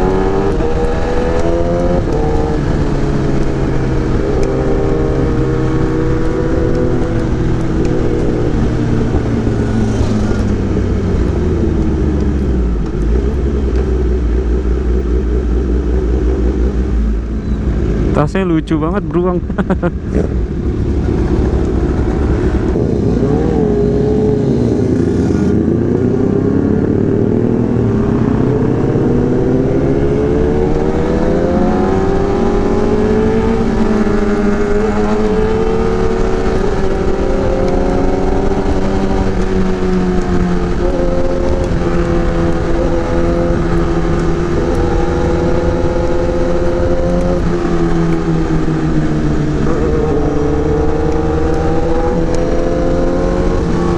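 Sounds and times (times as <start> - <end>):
motorcycle engine while riding: 0.0 - 53.9.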